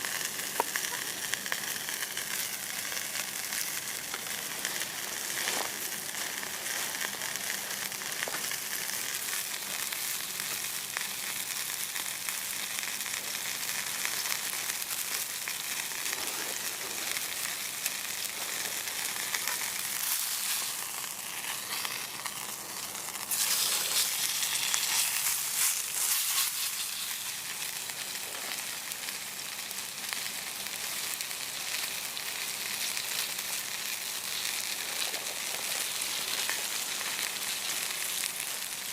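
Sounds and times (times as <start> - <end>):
steak sizzling in a pan: 0.0 - 38.9.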